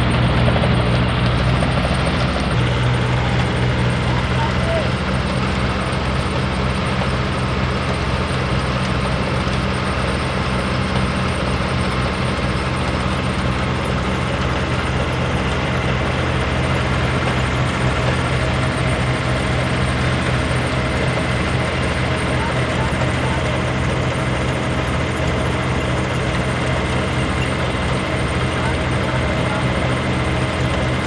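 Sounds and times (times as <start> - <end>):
engine humming steadily: 0.0 - 31.0.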